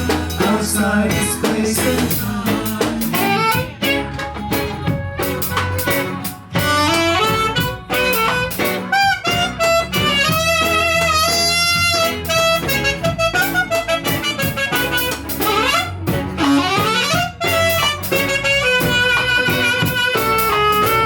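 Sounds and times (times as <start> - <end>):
reggae band playing: 0.0 - 21.0
reed instrument melody: 0.8 - 21.0.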